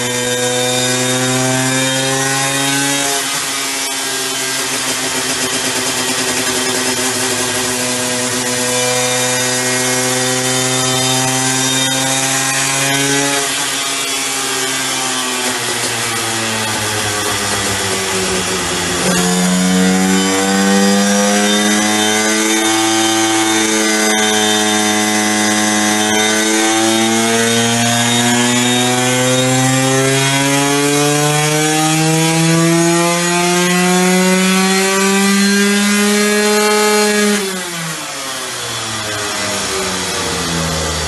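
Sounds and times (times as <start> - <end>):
two-stroke engine revving: 0.0 - 41.0.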